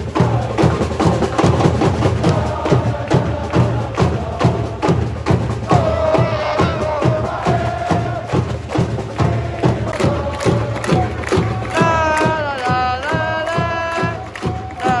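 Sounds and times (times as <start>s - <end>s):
crowd chanting: 0.0s - 15.0s
drums beating steady rhythm: 0.0s - 15.0s.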